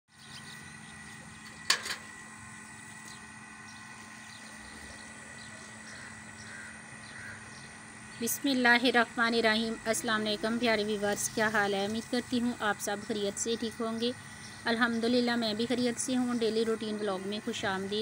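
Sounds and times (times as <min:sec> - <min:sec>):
background hum and hiss: 0:00.1 - 0:18.0.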